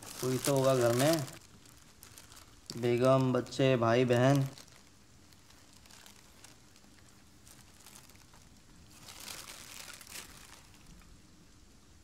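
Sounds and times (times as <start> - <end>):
cloth rustling: 0.0 - 3.3, 4.2 - 11.1
foil crinkling: 0.0 - 3.5, 4.1 - 11.2.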